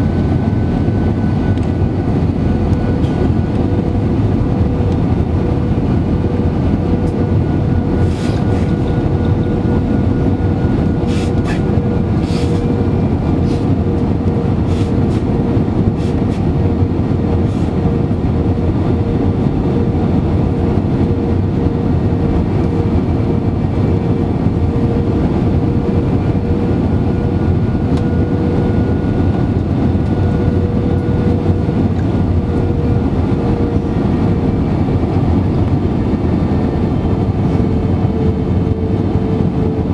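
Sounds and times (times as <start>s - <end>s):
jet engine and airflow roar: 0.0s - 39.9s.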